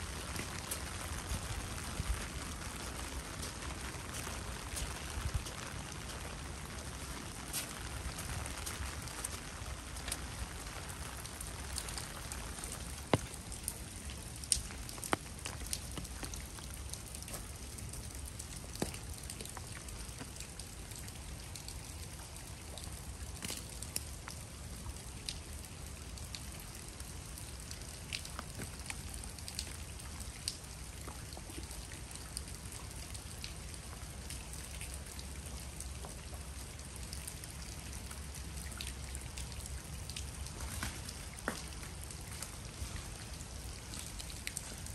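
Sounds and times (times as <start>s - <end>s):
raindrops ticking: 0.0s - 44.9s
steady rain falling: 0.0s - 44.9s.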